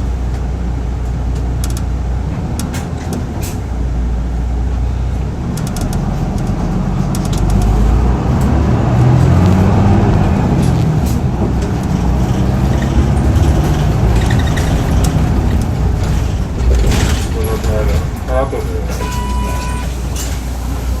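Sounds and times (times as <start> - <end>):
bus diesel engine at high revs: 0.0 - 21.0.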